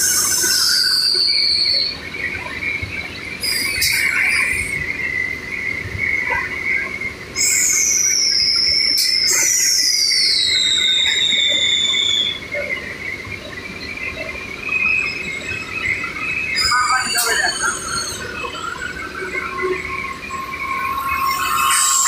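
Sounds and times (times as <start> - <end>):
high-pitched whistle gliding downward: 0.0 - 2.6, 3.4 - 13.5, 14.1 - 22.0
factory machinery whining: 0.0 - 22.0.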